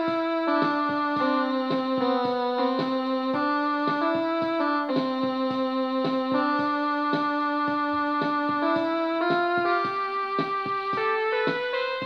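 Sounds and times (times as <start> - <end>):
electronic keyboard piano tune: 0.0 - 12.0
soft regular beats: 0.0 - 12.0.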